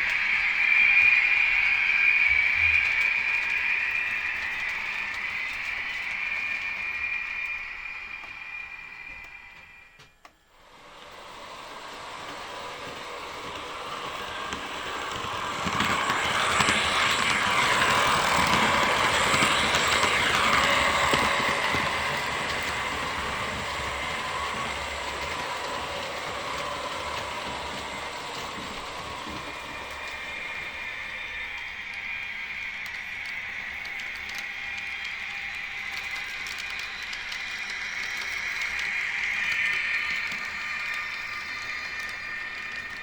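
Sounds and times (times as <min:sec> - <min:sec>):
model train wheels clicking on rails: 0:00.0 - 0:10.0, 0:10.6 - 0:43.0.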